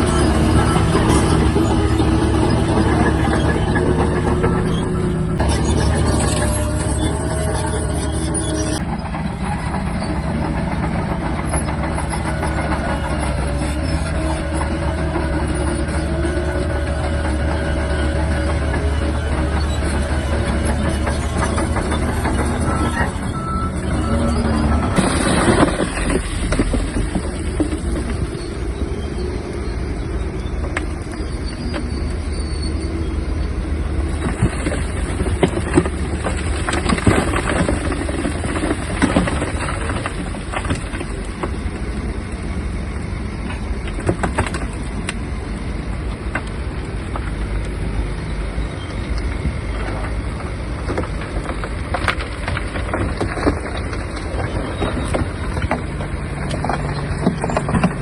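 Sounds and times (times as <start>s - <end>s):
bulldozer engine rumble: 0.0s - 58.0s
clanks from bulldozer tracks: 0.0s - 58.0s.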